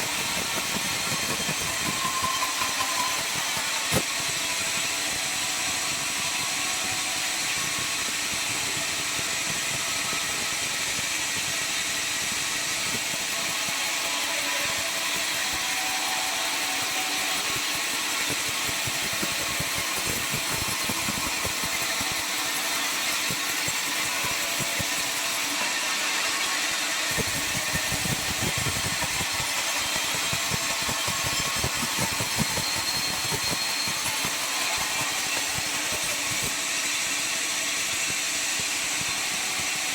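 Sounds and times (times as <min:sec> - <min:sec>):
circular saw whining: 0:00.0 - 0:10.6, 0:11.6 - 0:39.9.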